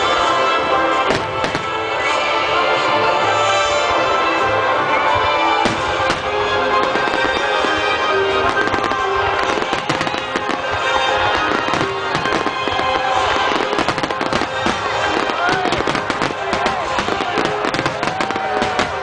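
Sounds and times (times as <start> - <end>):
fireworks bursting and crackling: 0.0 - 2.3, 5.0 - 19.0
orchestral music over loudspeakers: 0.0 - 19.0.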